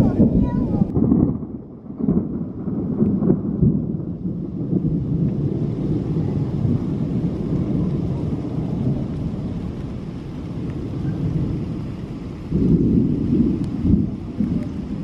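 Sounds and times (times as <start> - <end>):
rain falling: 0.0 - 15.0
thunder rumbling: 0.0 - 15.0.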